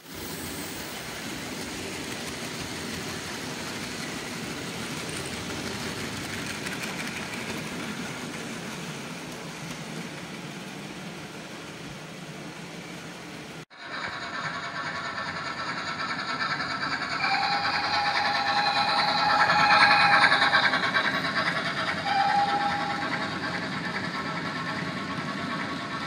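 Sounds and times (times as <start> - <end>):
model train wheels rumbling on rail: 0.0 - 26.0.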